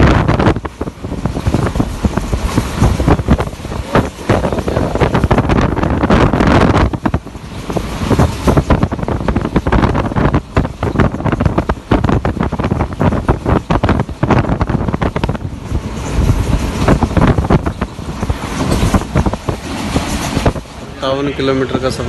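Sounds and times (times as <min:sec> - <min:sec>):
wind buffeting microphone: 0:00.0 - 0:21.2
train rumbling and rattling: 0:00.0 - 0:22.0.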